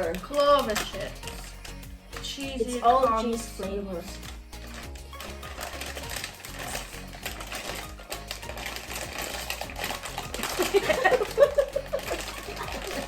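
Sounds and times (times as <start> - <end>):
background music: 0.0 - 13.0
plastic crisp packet crinkling: 0.0 - 13.0.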